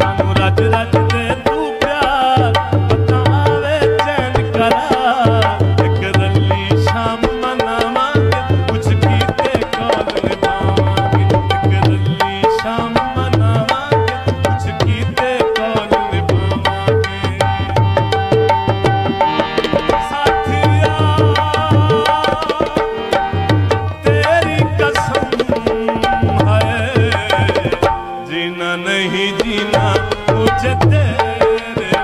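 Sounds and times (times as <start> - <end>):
hand drums: 0.0 - 28.2, 29.4 - 32.0
wavering folk melody: 0.0 - 32.0.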